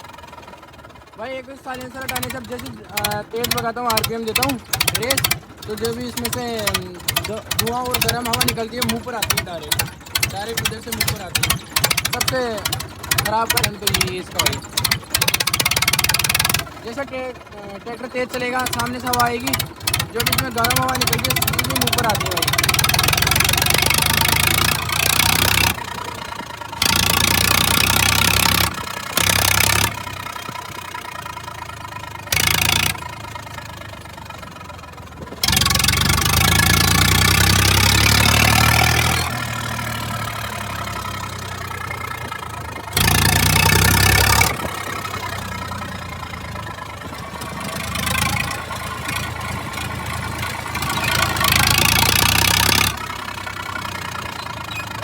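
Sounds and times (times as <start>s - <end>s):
diesel tractor engine revving: 0.0s - 55.0s.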